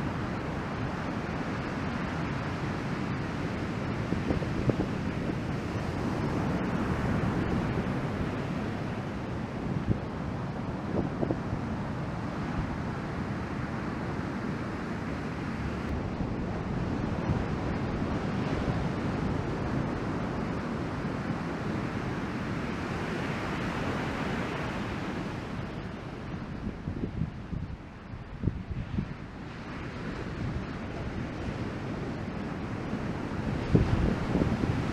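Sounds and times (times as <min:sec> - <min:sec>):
ocean surf breaking: 0:00.0 - 0:27.7, 0:28.5 - 0:34.9
wind rushing over microphone: 0:00.0 - 0:34.9.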